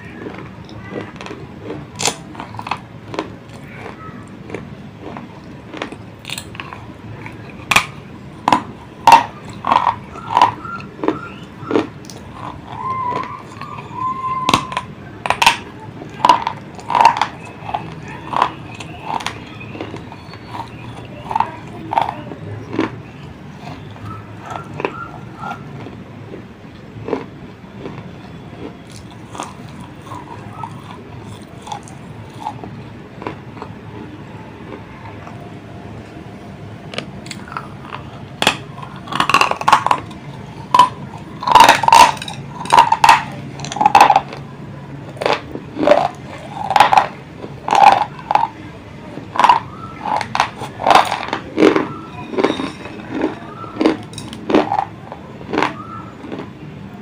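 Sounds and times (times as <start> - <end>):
chewing crunchy clay: 0.0 - 56.6.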